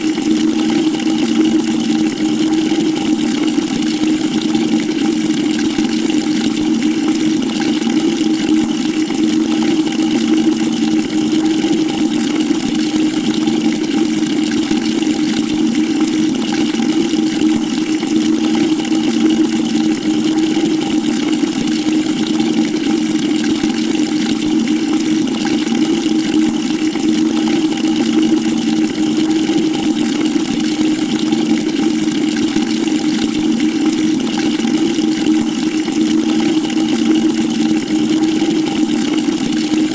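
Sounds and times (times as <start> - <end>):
water running into a bucket: 0.0 - 39.9.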